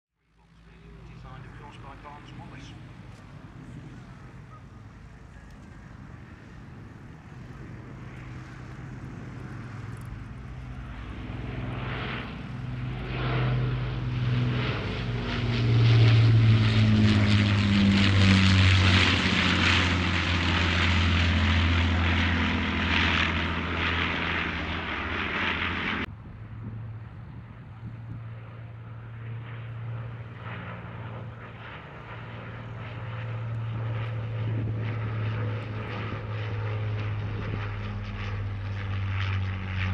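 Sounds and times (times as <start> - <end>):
propeller plane engines droning: 0.2 - 39.9.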